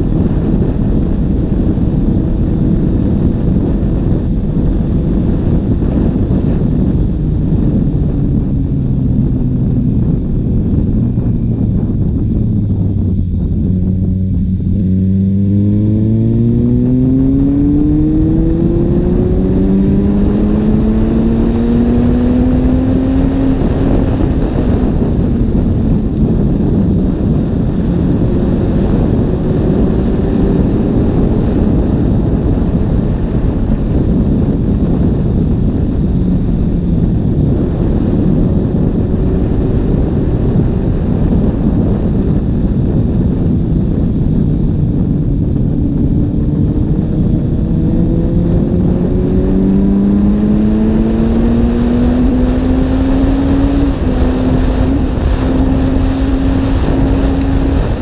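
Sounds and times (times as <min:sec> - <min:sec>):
motorcycle engine running: 0:00.0 - 0:58.0
wind and road rush: 0:00.0 - 0:58.0.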